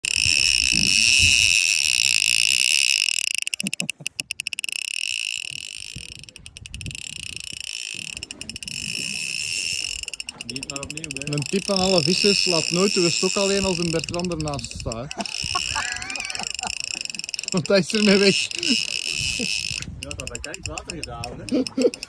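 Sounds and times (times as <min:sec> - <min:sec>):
fishing reel drag buzzing and clicking: 0:00.0 - 0:22.0.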